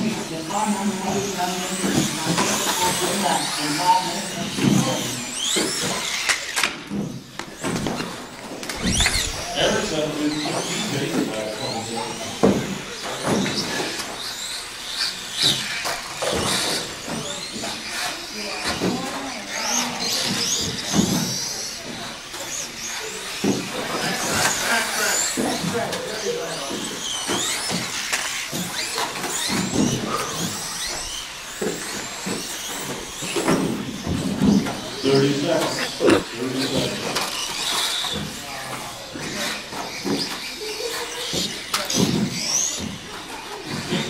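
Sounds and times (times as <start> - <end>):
rc car motors whining: 0.0 - 44.0.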